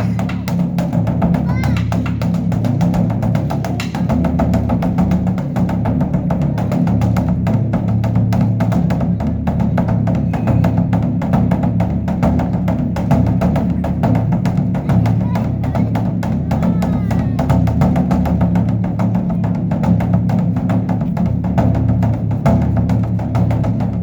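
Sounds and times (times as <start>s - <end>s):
large drum beaten rapidly: 0.0s - 24.0s.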